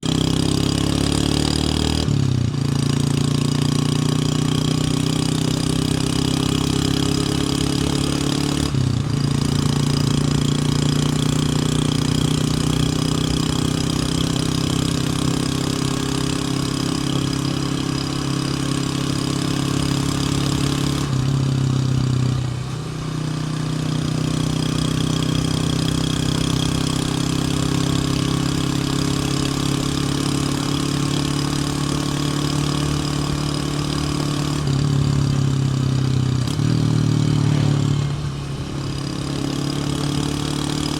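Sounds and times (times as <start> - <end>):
motorcycle engine running: 0.0 - 40.9
wind and road noise: 0.1 - 14.5, 15.6 - 40.9.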